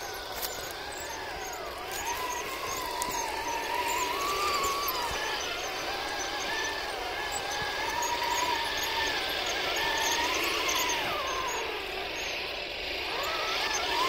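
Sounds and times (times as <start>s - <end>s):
toy tank electric motors whining: 0.0s - 14.0s.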